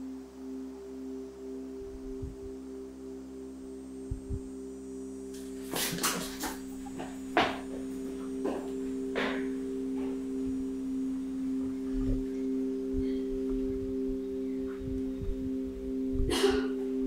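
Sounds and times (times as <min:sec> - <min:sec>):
sustained drone of held tones: 0:00.0 - 0:17.0.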